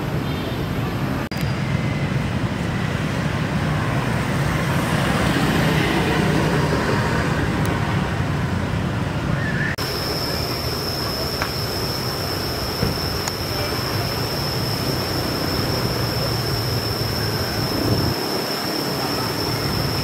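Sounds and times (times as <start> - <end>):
street traffic rumble: 0.0 - 20.0
steady high-pitched whine: 1.2 - 20.0.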